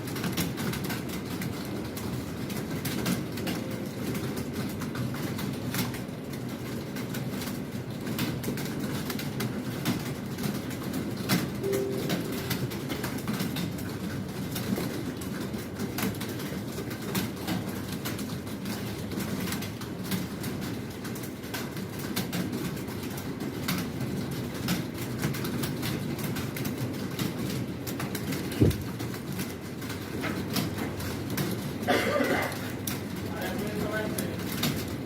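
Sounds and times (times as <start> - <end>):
keyboard typing clatter: 0.0 - 35.0.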